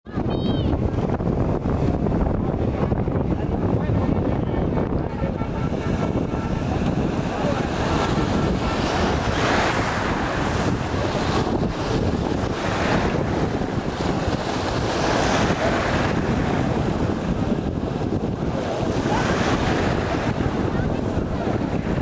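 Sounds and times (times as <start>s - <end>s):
wind buffeting microphone: 0.0s - 22.0s
surf breaking in shallows: 0.2s - 22.0s.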